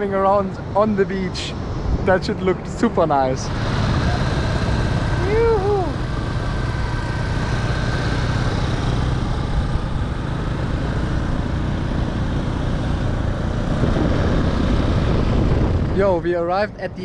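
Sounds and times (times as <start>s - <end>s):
motor scooters rumbling: 2.5s - 17.0s.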